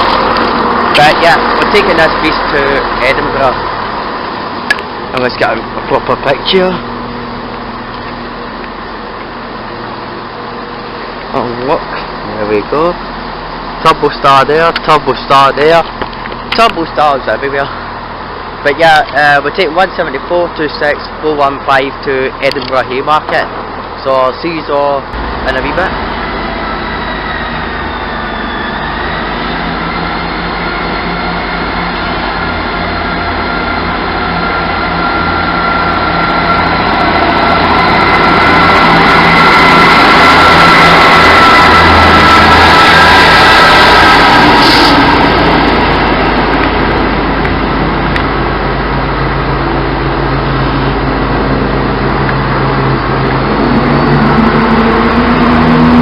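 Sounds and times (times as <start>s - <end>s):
faint whining tones: 0.0s - 51.3s
diesel train engine drone: 0.0s - 56.0s.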